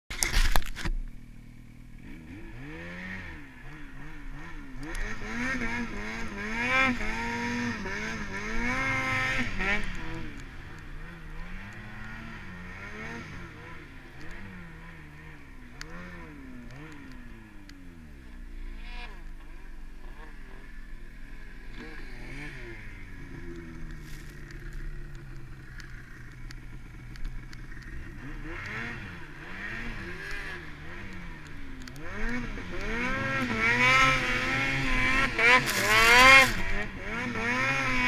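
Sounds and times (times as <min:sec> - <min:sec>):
snowmobile engine revving: 0:01.6 - 0:38.0.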